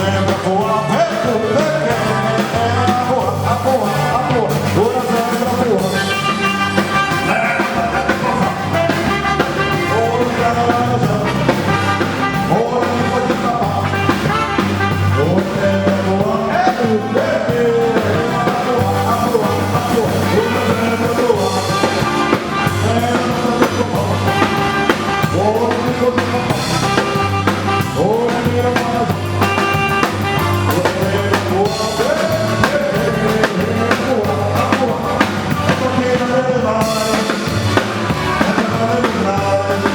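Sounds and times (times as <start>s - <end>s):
band music: 0.0s - 39.9s
drum kit: 0.0s - 39.9s
pulsing bass line: 0.0s - 39.9s
bending melodic lead: 1.9s - 39.9s.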